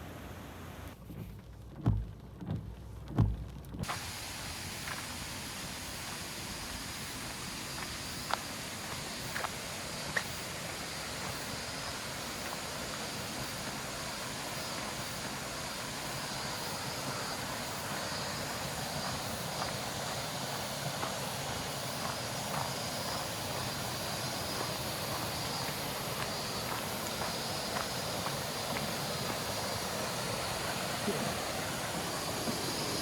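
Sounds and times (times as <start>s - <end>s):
mountain stream rushing: 3.8s - 33.0s.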